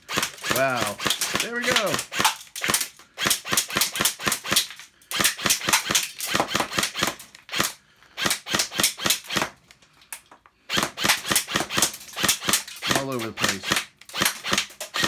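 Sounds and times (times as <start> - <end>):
airsoft rifle shots: 0.0 - 9.6, 10.7 - 15.0.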